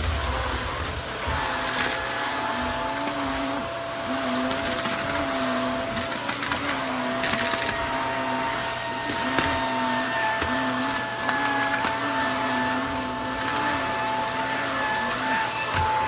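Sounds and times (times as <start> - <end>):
vacuum cleaner whining: 0.0 - 16.0.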